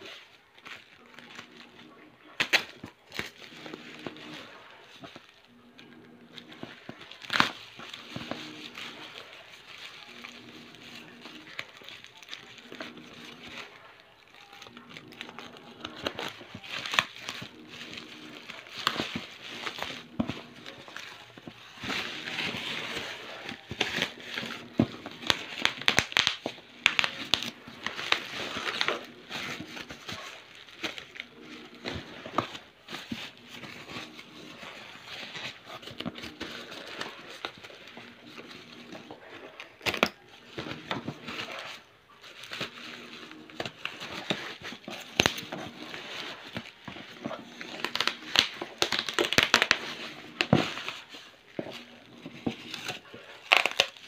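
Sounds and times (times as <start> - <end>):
bubble wrap crinkling and clicking: 0.0 - 54.0.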